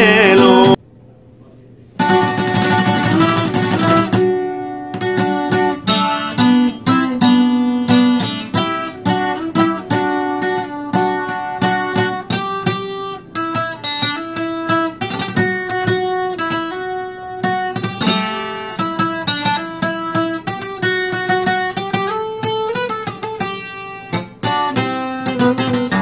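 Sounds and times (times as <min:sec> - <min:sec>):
twelve-string acoustic guitar: 0:00.0 - 0:00.8, 0:02.0 - 0:26.0.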